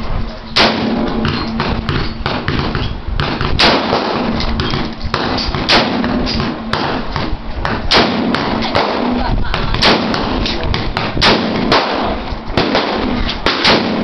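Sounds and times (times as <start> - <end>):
steady low hum: 0.0 - 14.0
rifle shots with echo: 0.6 - 14.0.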